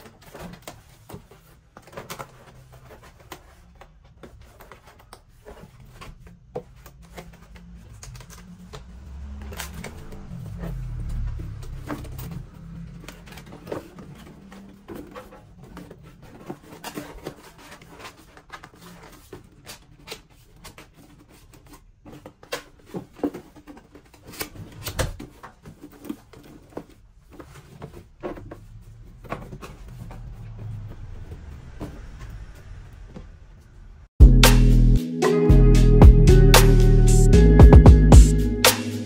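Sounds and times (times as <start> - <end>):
cardboard being folded: 0.0 - 31.8.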